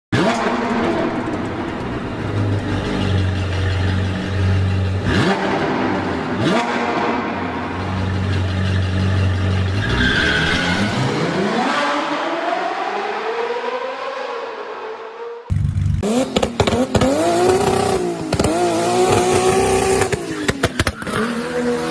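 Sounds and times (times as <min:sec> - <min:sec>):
car engine revving: 0:00.2 - 0:21.9.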